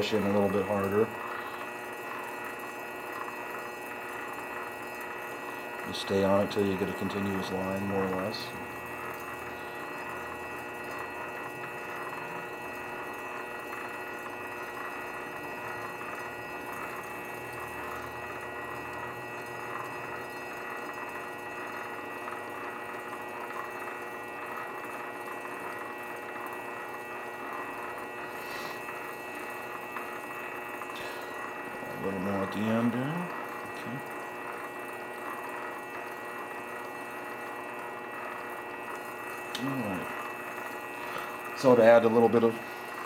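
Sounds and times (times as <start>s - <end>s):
lathe motor whining: 0.0s - 43.0s.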